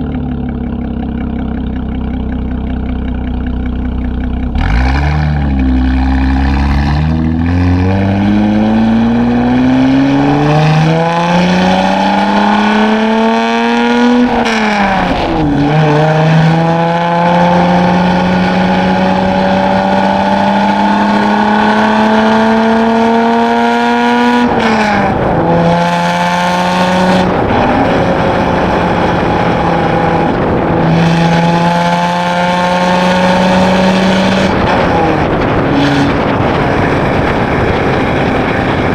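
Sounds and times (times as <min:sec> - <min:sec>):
car exhaust accelerating: 0:00.0 - 0:38.9.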